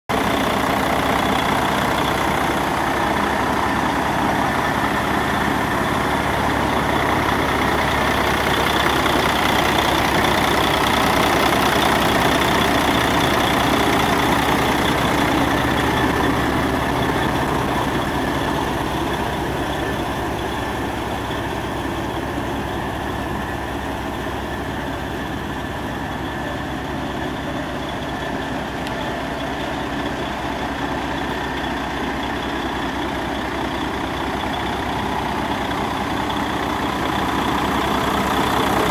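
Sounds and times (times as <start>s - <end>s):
diesel truck engine idling: 0.1s - 38.9s.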